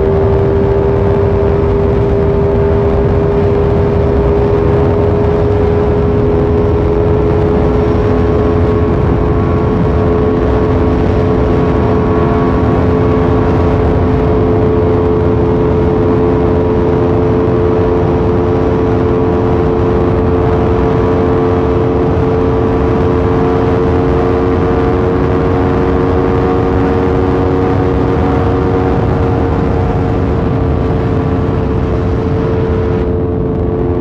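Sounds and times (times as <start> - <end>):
motorcycle engine cruising: 0.0 - 34.0
wind rush over microphone: 0.0 - 34.0.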